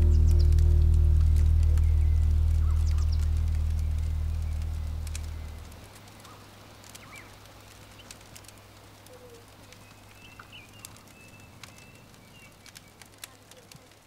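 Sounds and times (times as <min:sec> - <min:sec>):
faint bird chirps: 0:00.0 - 0:08.2, 0:09.1 - 0:13.6
fire pops: 0:00.0 - 0:14.0
log fire crackling: 0:00.0 - 0:14.0.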